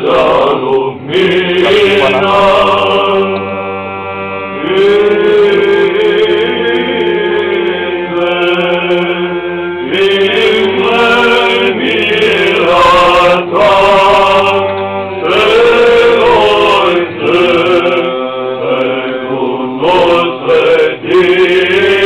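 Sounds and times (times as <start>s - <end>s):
low held drone note: 0.0s - 22.0s
voices chanting a cappella: 0.0s - 22.0s.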